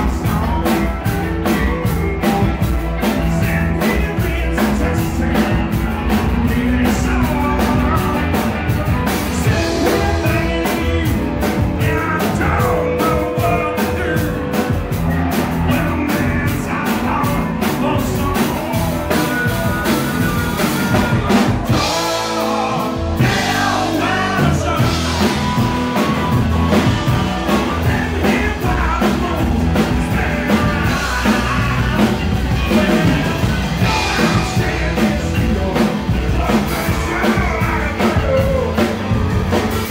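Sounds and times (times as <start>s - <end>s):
bass guitar: 0.0s - 39.9s
drum kit: 0.0s - 39.9s
electric guitars: 0.0s - 39.9s
harmonica lead: 0.0s - 39.9s.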